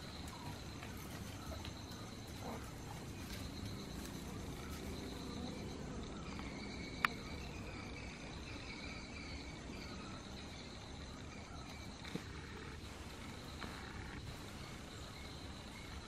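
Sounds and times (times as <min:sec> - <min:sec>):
insect trilling: 0:00.0 - 0:16.0.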